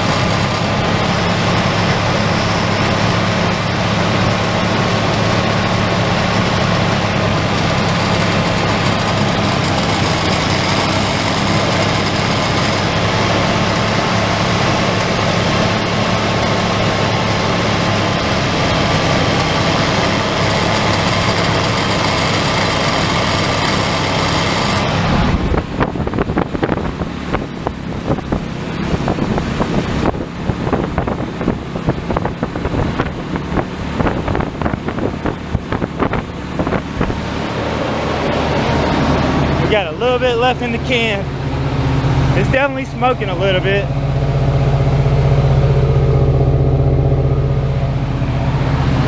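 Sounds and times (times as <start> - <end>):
vee eight engine at raised revs: 0.0 - 49.0.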